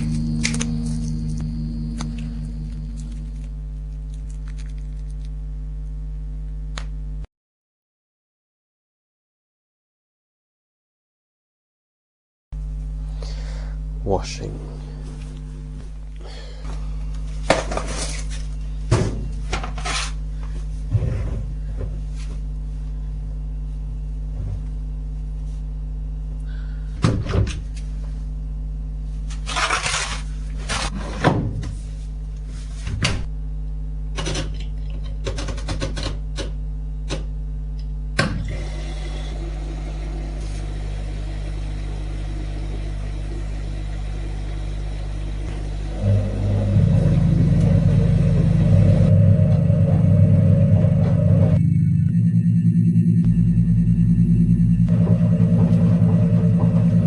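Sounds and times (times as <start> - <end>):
steady low hum: 0.0 - 7.3, 12.6 - 57.0.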